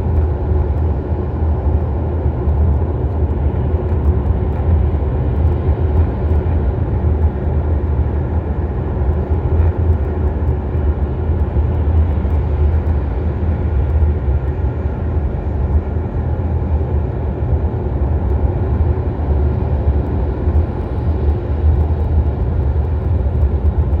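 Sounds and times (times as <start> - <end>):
road and tyre rumble in car: 0.0 - 24.0.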